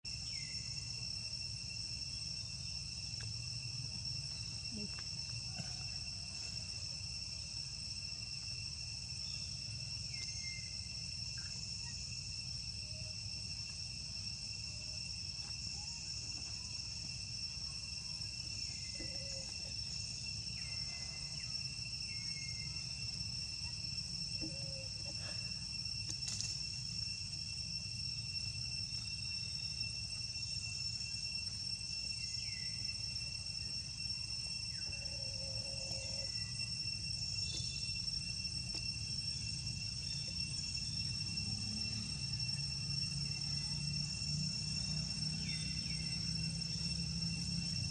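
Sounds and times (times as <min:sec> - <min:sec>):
insects whining: 0:00.0 - 0:47.9.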